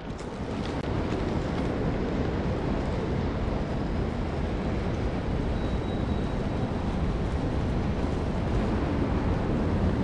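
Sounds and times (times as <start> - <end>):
railway station hall rumble: 0.0 - 10.0.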